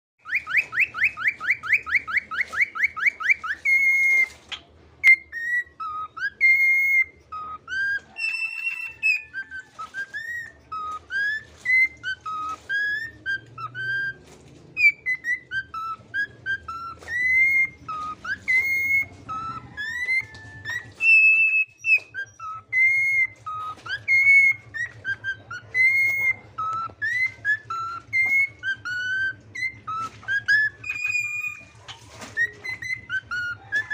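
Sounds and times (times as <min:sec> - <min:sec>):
cockatiel chirping: 0:00.2 - 0:33.9
cockatiel whistling song: 0:00.2 - 0:33.9.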